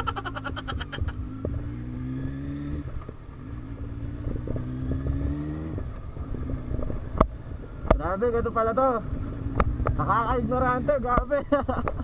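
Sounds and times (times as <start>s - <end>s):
motorcycle engine revving under throttle: 0.0s - 11.4s.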